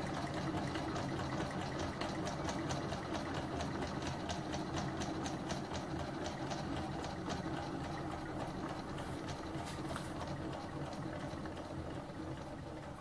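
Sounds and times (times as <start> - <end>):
engine mechanical hum: 0.0 - 13.0.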